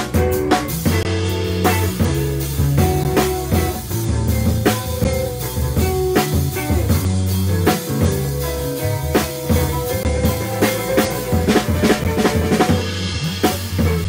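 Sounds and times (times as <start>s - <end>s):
drum kit beat: 0.0s - 14.0s
electric bass: 0.0s - 14.0s
electric guitar: 0.0s - 14.0s.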